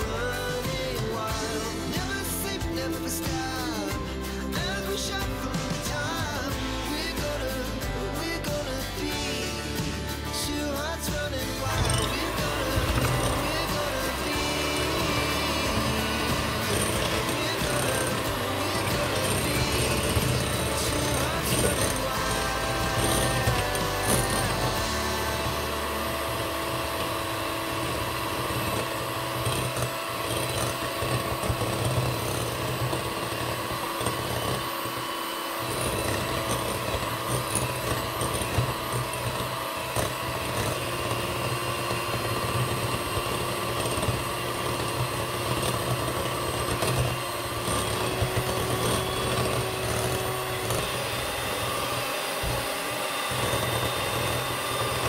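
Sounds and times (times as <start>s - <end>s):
electric hand mixer whisking: 0.0s - 55.0s.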